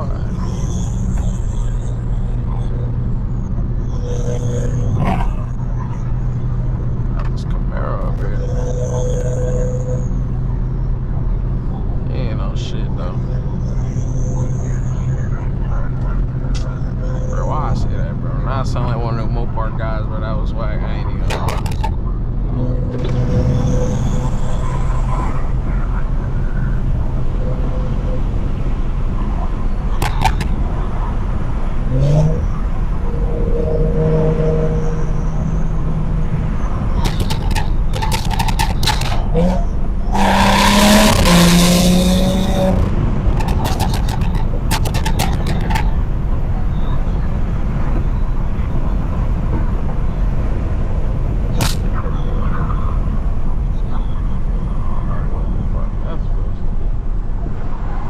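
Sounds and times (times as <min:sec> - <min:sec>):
low car exhaust rumble: 0:00.0 - 0:58.0.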